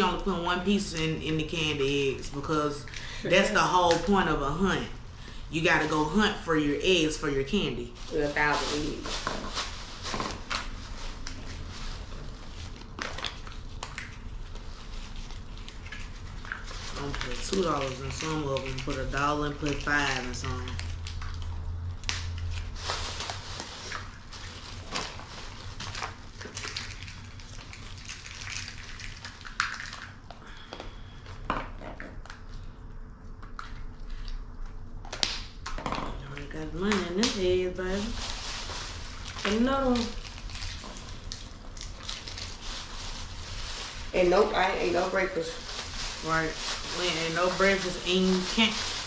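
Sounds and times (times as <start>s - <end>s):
candy wrappers rustling: 0.0s - 31.4s, 36.2s - 49.0s.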